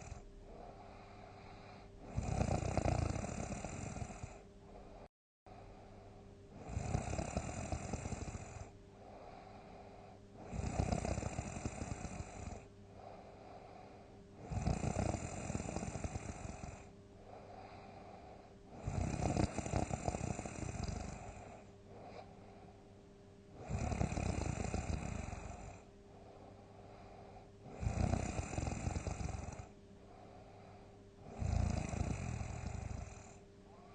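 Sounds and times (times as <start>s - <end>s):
loud snoring: 0.0s - 5.1s, 6.6s - 22.3s, 23.6s - 25.9s, 26.9s - 29.7s, 31.2s - 33.4s
faint steady hum: 0.0s - 33.9s
quiet breath: 0.0s - 33.9s.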